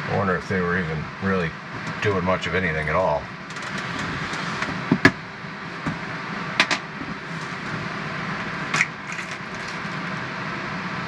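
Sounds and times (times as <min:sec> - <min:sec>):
steady whir: 0:00.0 - 0:11.0.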